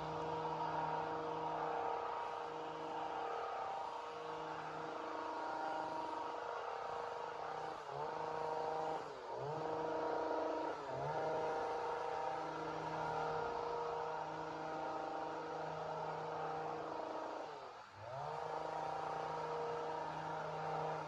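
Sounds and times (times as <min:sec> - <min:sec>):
chainsaw engine buzzing: 0:00.0 - 0:21.0.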